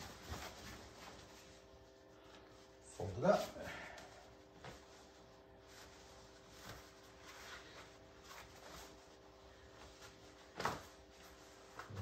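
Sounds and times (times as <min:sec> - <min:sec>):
fabric rustling: 0:00.0 - 0:12.0
faint steady hum: 0:00.0 - 0:12.0.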